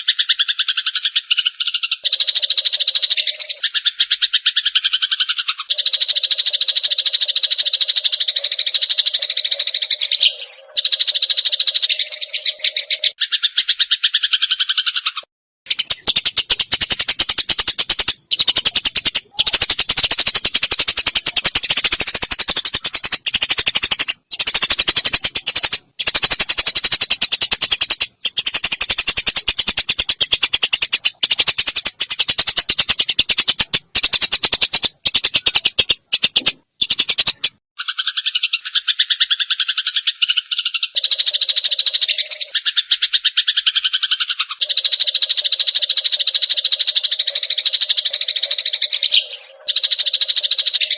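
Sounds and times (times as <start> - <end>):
sparrows chattering: 0.0 - 50.9.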